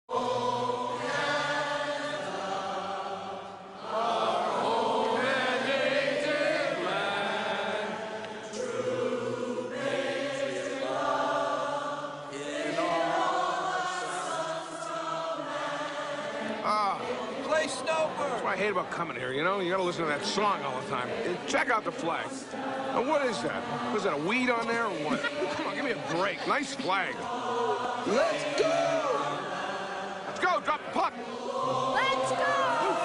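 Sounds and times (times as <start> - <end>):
group singing slow song: 0.1 - 33.0.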